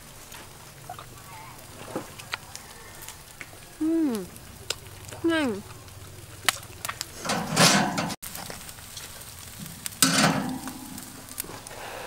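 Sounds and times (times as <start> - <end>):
beef sizzling on a grill: 0.0 - 12.0.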